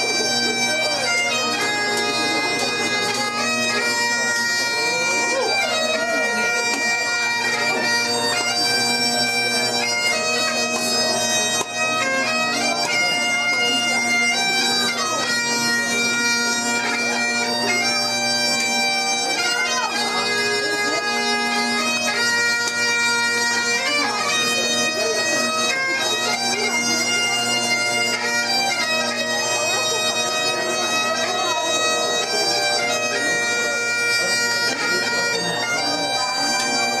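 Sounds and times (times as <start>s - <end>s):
bagpipes playing: 0.0s - 37.0s.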